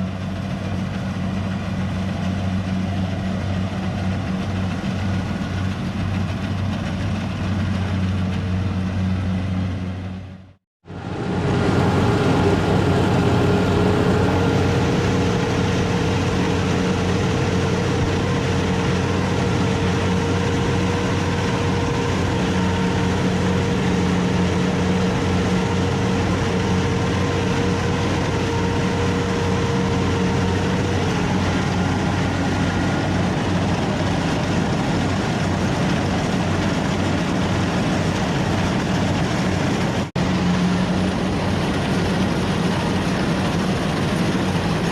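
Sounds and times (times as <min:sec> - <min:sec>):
combine harvester engine humming: 0:00.0 - 0:44.9
high mechanical whine: 0:00.0 - 0:44.9.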